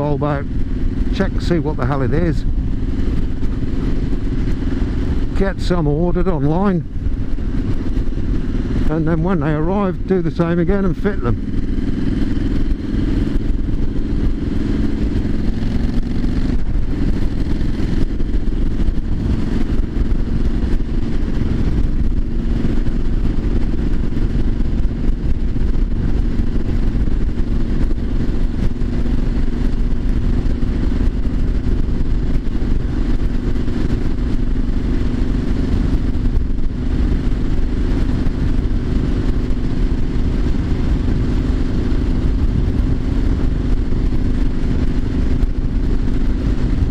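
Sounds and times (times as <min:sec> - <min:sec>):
motorcycle engine cruising: 0:00.0 - 0:46.9
wind rumble on microphone: 0:00.0 - 0:46.9.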